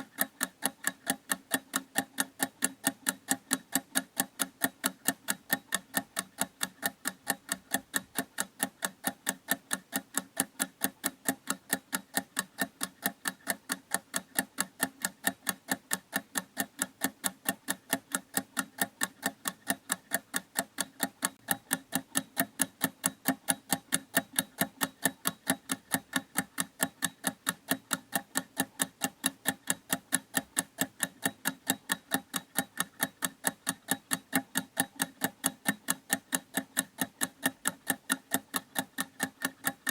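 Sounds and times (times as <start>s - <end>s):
clock ticking rapidly: 0.0s - 39.9s.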